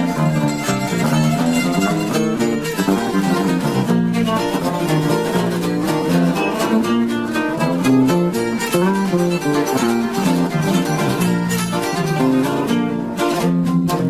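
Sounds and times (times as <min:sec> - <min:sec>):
acoustic guitar picking: 0:00.0 - 0:14.0.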